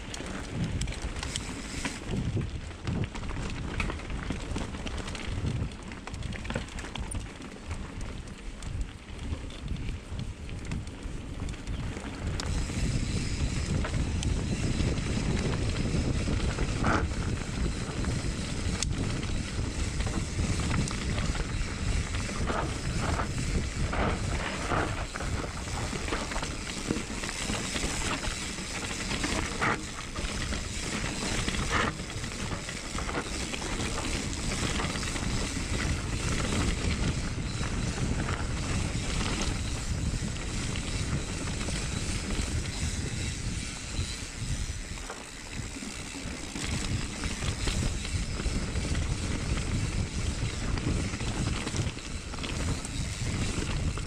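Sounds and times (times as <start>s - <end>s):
wind buffeting microphone: 0.0s - 7.2s, 7.9s - 54.0s.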